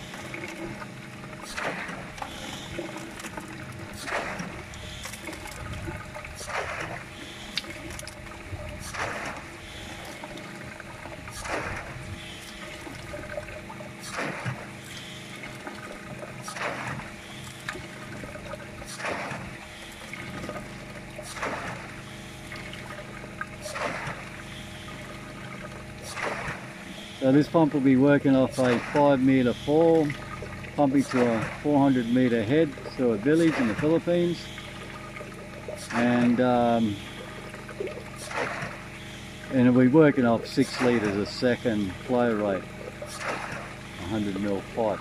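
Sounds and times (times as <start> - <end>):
water trickling into a plastic jug: 0.0 - 26.0, 26.7 - 45.0
pump surging: 0.0 - 45.0
running water: 0.0 - 45.0.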